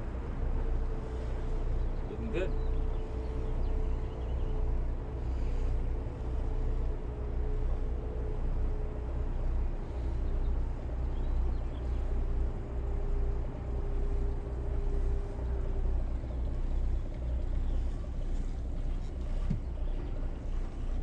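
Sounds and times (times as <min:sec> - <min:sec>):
boat diesel engines rumbling: 0:00.0 - 0:21.0.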